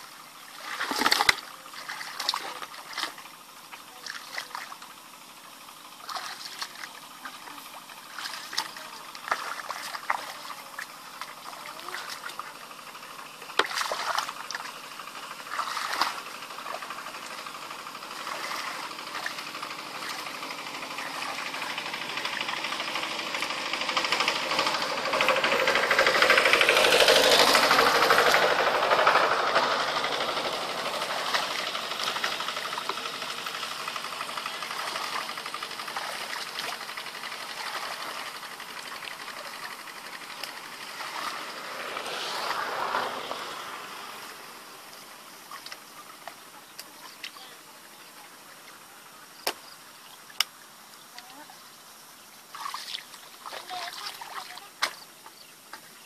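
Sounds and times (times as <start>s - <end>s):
muddy water splashing: 0.0s - 51.6s, 52.4s - 56.0s
small engine droning: 0.0s - 56.0s.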